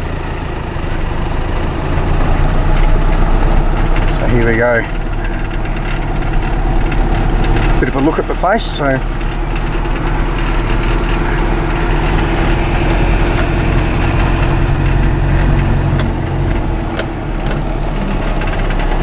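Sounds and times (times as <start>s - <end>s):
vehicle engine low hum: 0.0s - 19.0s
light rattles: 0.8s - 19.0s.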